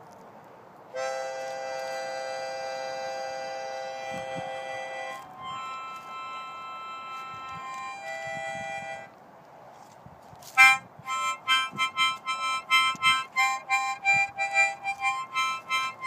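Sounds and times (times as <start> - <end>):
harmonica chords: 0.9 - 9.2, 10.5 - 16.0.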